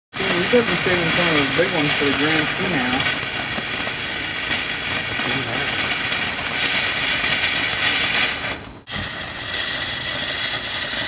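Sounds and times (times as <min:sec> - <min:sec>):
firework fountain hissing: 0:00.1 - 0:11.0.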